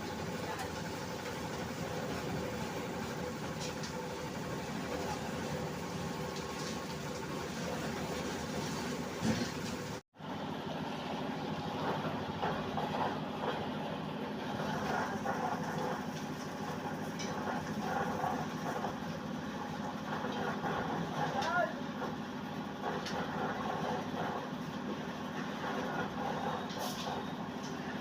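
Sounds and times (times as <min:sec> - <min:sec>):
construction machinery rumble: 0:00.0 - 0:28.0.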